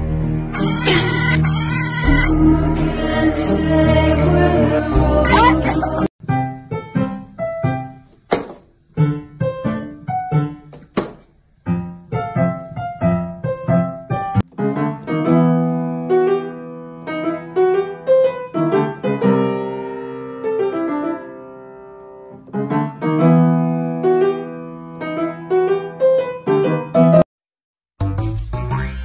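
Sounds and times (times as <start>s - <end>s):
piano music: 0.0s - 8.2s, 8.9s - 10.7s, 11.6s - 27.2s.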